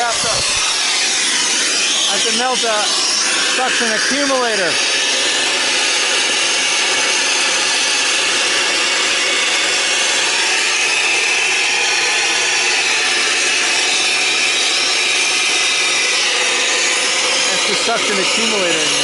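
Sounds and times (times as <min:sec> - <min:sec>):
torch flame hissing: 0:00.0 - 0:19.0.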